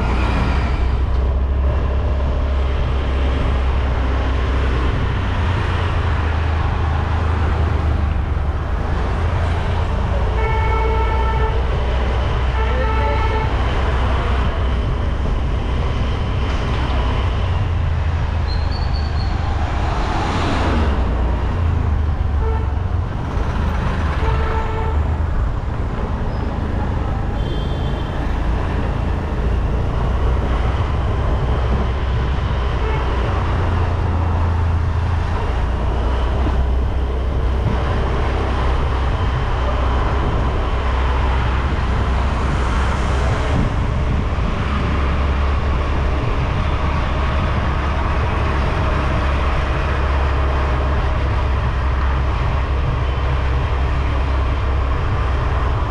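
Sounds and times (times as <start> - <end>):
road traffic rumble: 0.0 - 55.9.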